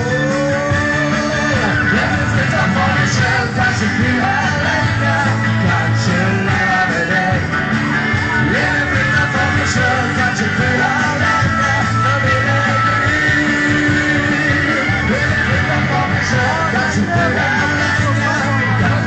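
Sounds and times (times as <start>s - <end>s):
live rock band playing: 0.0s - 19.0s
person singing: 0.0s - 19.0s.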